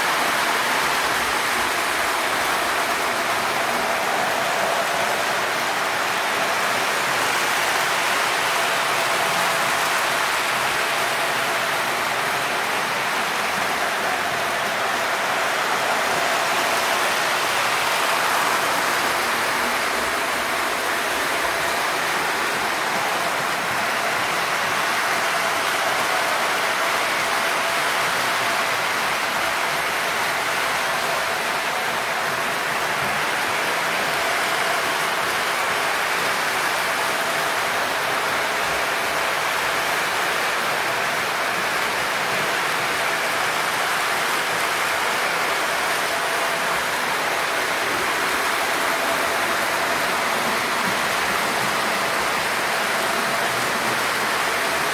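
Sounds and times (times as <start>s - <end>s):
model train wheels on rails: 0.0s - 54.9s.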